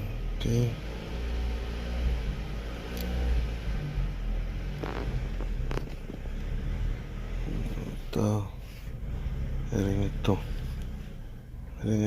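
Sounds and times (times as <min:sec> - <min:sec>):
car engine idling surging: 0:00.0 - 0:12.0.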